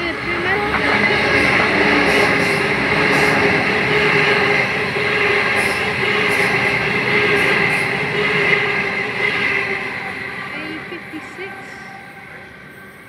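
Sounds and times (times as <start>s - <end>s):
high-pitched train whine: 0.0s - 13.0s
train wheels rumbling: 0.0s - 13.0s.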